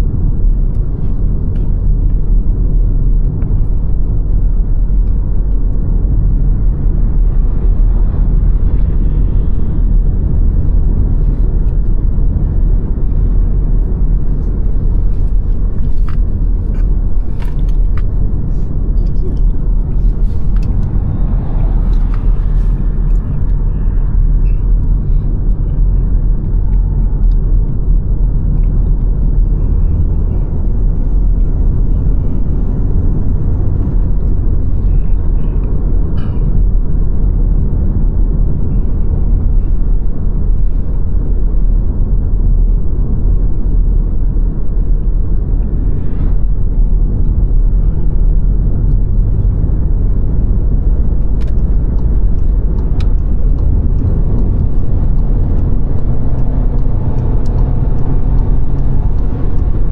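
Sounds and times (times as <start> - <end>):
car driving steadily: 0.0 - 59.9.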